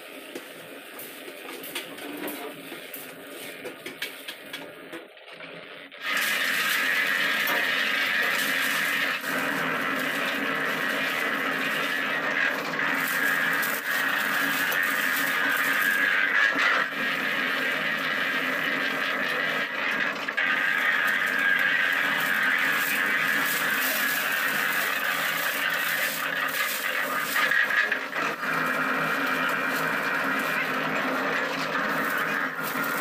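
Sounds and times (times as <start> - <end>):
concrete mixer running: 0.0 - 33.0
mixer drum squealing: 6.0 - 33.0.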